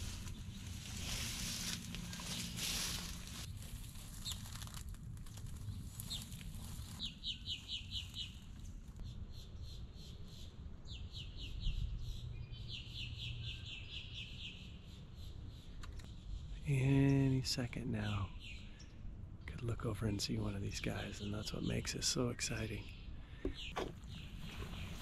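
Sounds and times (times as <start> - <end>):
faint low outdoor rumble: 0.0 - 25.0.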